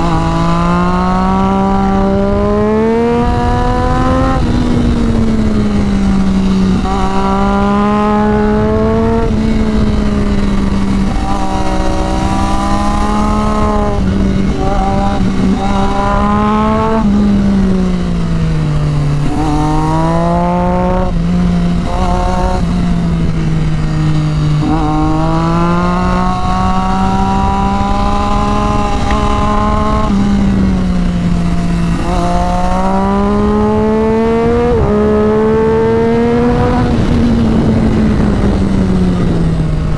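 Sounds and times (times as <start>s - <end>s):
sport bike engine accelerating: 0.0s - 39.9s
wind noise: 0.0s - 39.9s.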